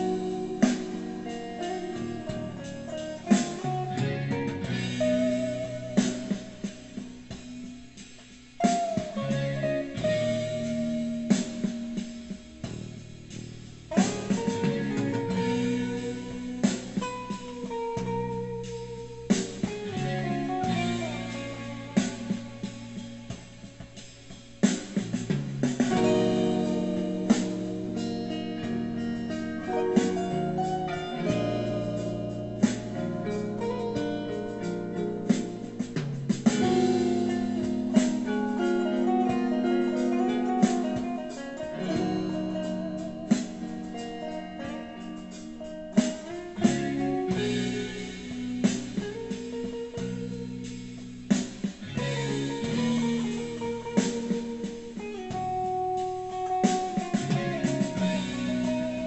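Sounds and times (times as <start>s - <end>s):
backing track: 0.0s - 59.0s
electric guitar lead: 0.0s - 59.0s.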